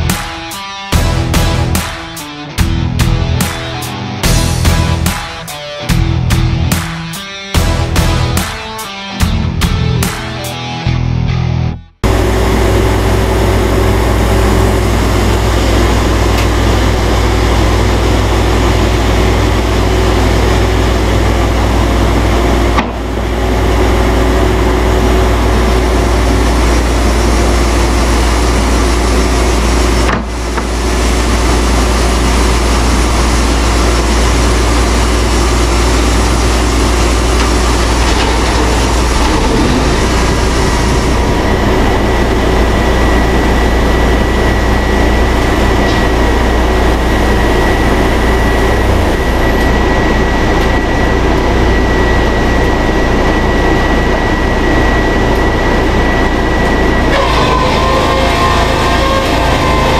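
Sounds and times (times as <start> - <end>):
sawmill machinery din: 0.0 - 10.7, 12.0 - 59.9
high machine whine: 0.0 - 59.9.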